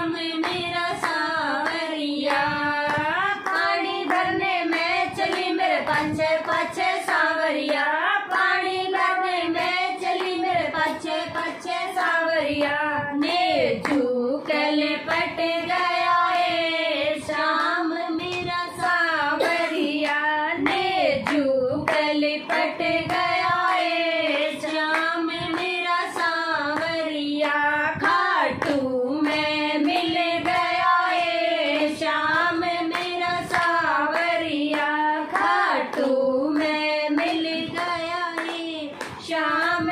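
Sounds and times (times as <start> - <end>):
hand claps: 0.0 - 39.9
women singing devotional song: 0.0 - 39.9.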